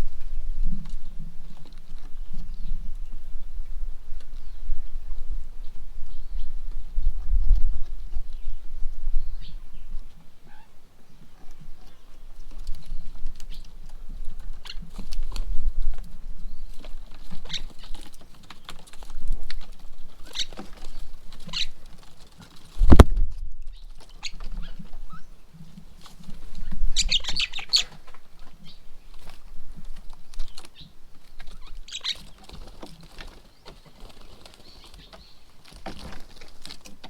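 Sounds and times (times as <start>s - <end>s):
birds chirping: 0.0s - 23.0s, 23.6s - 37.0s.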